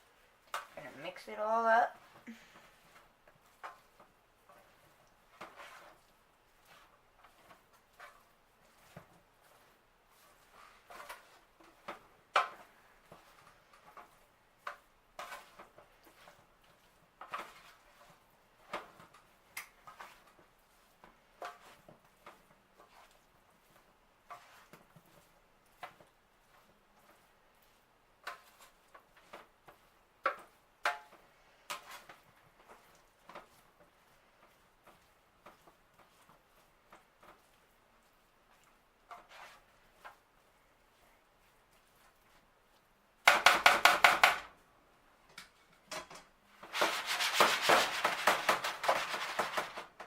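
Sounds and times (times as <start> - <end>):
utensil scraping a pan: 0.4 - 42.5, 45.5 - 50.0.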